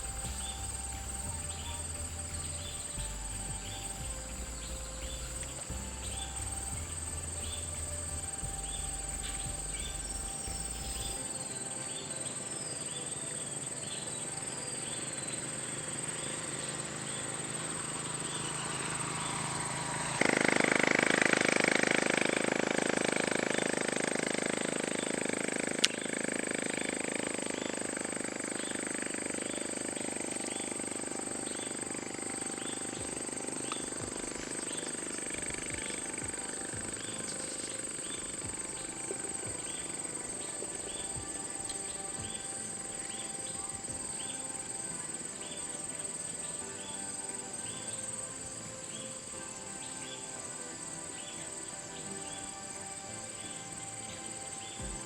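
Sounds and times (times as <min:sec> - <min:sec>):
insect chirps: 0:00.0 - 0:55.0
insect drone: 0:00.0 - 0:55.0
loud steady hiss: 0:00.0 - 0:55.0.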